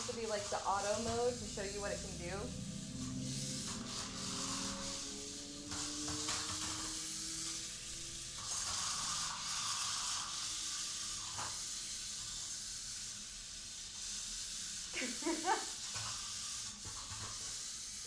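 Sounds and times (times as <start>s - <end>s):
toy car electric motors whirring: 0.0s - 18.0s.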